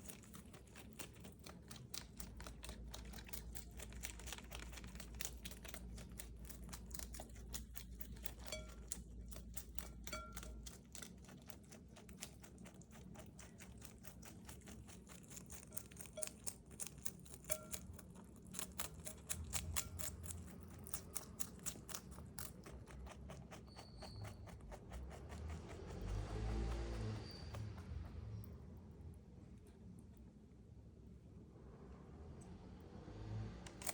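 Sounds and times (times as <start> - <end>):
rabbit chewing crisp crunches: 0.0 - 31.8, 33.5 - 33.9.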